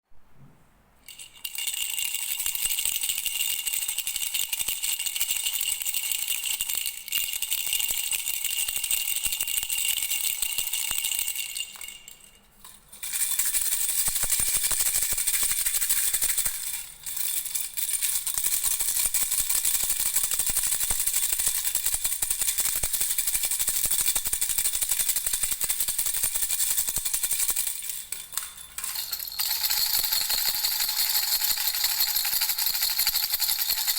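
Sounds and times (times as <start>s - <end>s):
baby rattle bells jingling: 1.1s - 33.9s.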